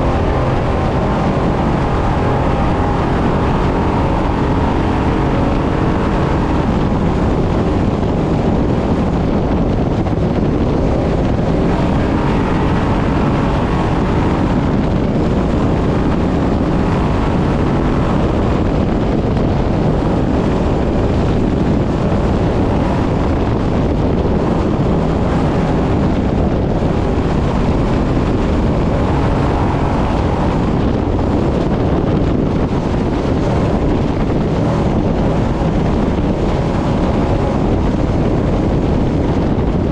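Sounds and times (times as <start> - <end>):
rush of wind: 0.0 - 39.9.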